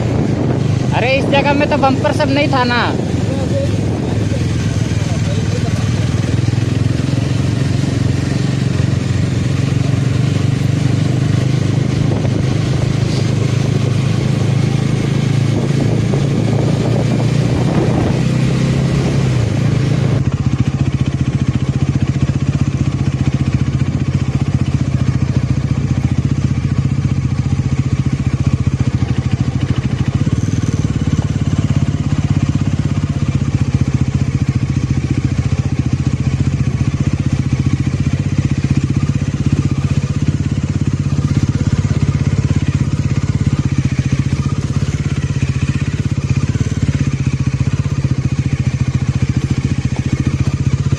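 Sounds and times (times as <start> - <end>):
motorcycle engine droning: 0.0 - 50.9
road and wind noise: 0.0 - 50.9.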